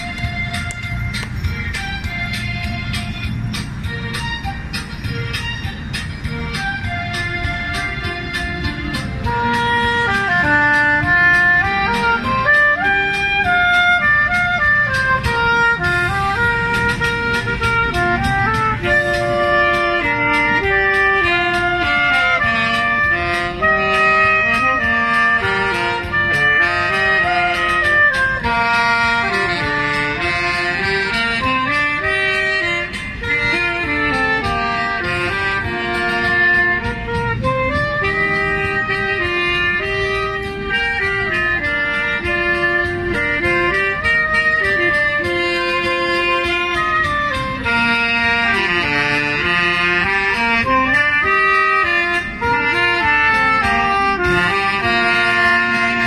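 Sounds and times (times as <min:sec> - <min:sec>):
backing track from small loudspeaker: 0:00.0 - 0:56.0
saxophones playing melody: 0:00.0 - 0:56.0.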